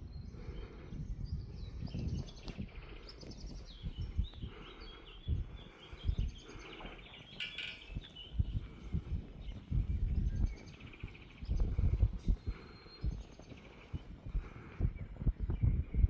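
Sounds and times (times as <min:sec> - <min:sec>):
small birds singing and twittering: 0:00.0 - 0:16.0.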